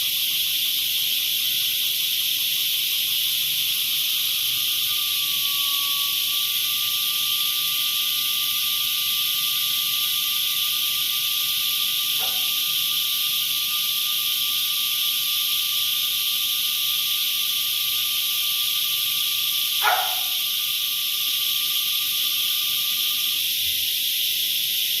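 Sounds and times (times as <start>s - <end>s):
cicadas droning: 0.0s - 25.0s.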